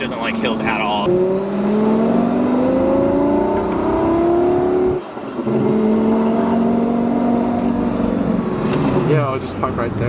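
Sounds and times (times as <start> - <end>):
sports car engine revving: 0.2 - 10.0.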